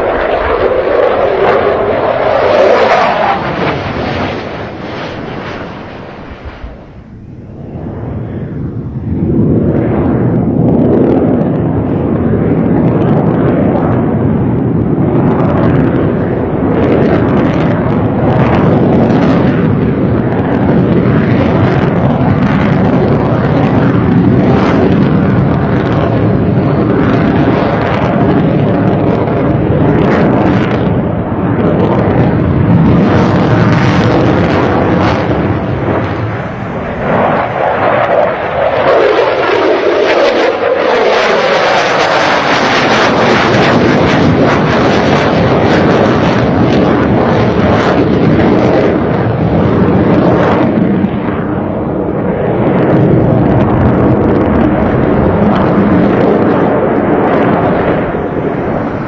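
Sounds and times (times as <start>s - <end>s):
fighter jet engine rumble: 0.0s - 59.0s.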